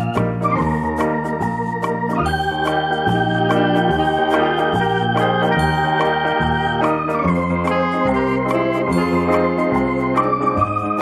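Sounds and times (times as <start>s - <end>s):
bass line: 0.0s - 11.0s
electronic keyboard tune: 0.0s - 11.0s.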